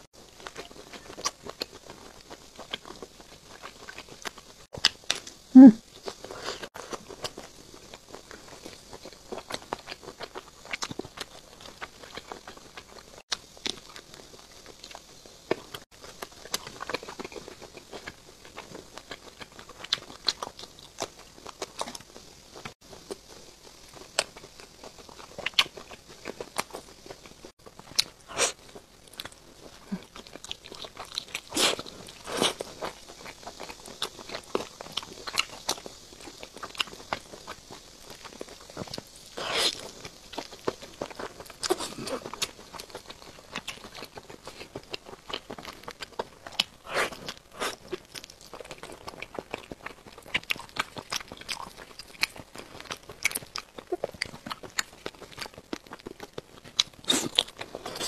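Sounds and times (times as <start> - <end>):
chewing sausage: 0.0 - 58.0.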